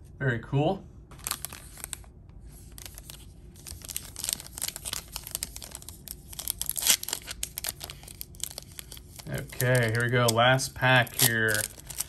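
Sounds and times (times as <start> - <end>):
foil wrapper crinkling: 1.2 - 12.0.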